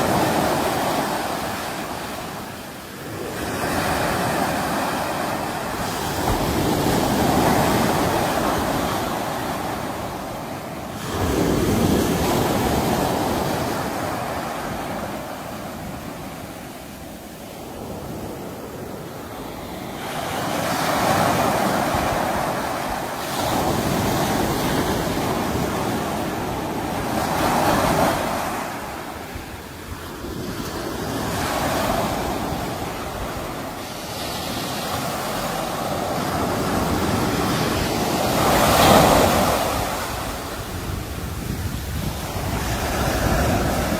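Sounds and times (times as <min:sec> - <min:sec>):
sea waves breaking: 0:00.0 - 0:43.9.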